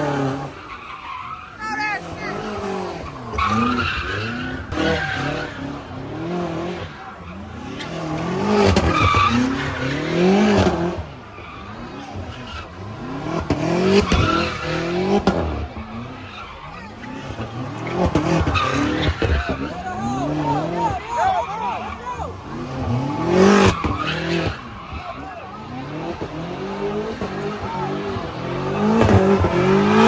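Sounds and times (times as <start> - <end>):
car engine revving: 0.0 - 30.0
tyres squealing and skidding: 0.0 - 30.0.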